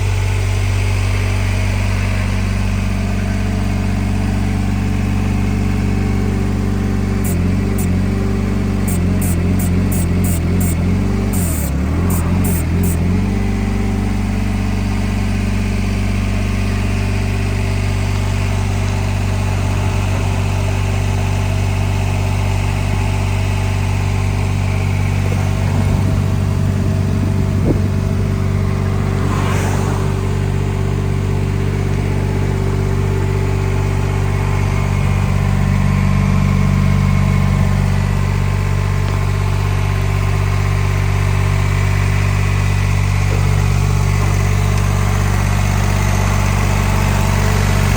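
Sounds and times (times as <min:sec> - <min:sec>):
backhoe diesel engine idling: 0:00.0 - 0:29.3, 0:30.0 - 0:47.9.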